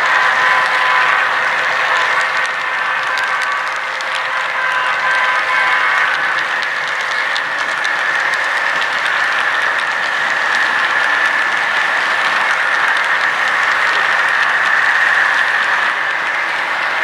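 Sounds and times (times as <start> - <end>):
model train whirring whine: 0.0 - 17.0
wheels clicking over rails: 0.0 - 17.0.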